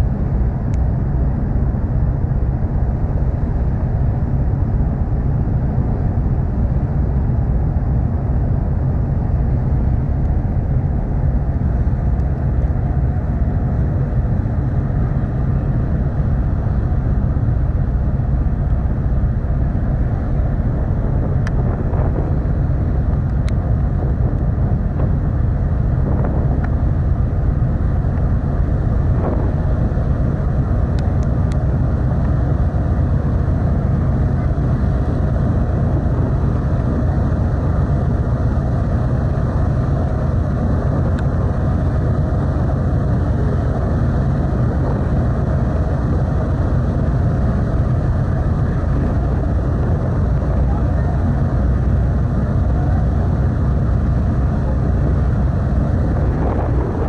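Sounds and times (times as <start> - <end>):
ferry engine rumble: 0.0 - 57.0
wind buffeting microphone: 0.0 - 57.0.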